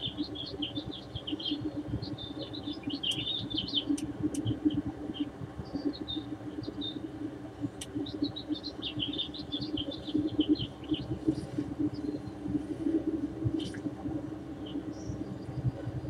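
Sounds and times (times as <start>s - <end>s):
low steady hum: 0.0s - 16.0s
small birds chirping: 0.0s - 16.0s.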